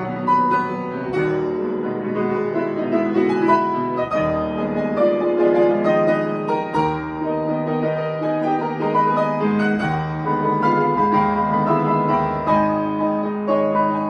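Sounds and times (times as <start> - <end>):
solo piano playing: 0.0 - 14.0.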